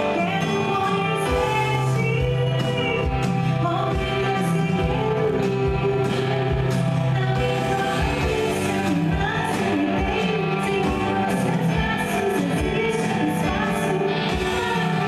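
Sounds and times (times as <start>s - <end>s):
electric guitar: 0.0s - 15.0s
keyboard: 0.0s - 15.0s
woman singing: 0.0s - 15.0s.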